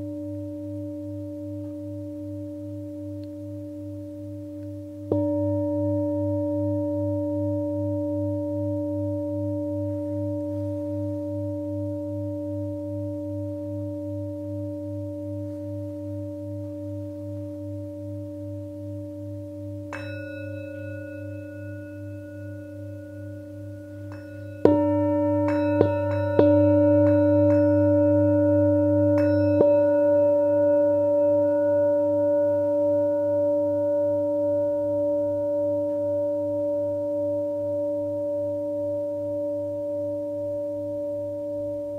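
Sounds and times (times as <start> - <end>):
singing bowls ringing: 0.0 - 41.9.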